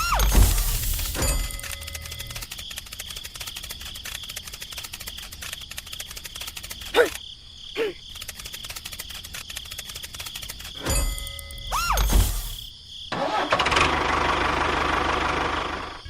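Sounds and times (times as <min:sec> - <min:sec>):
insects chirring: 0:00.0 - 0:13.4.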